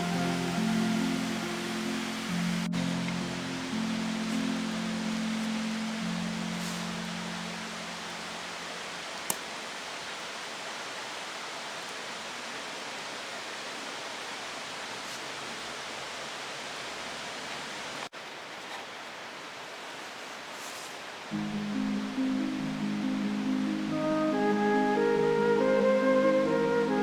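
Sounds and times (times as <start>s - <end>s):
flowing water rushing: 0.0s - 27.0s.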